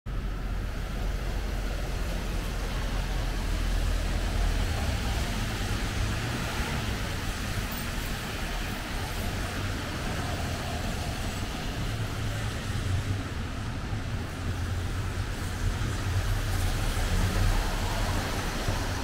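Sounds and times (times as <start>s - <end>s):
road traffic rumble: 0.1s - 19.0s.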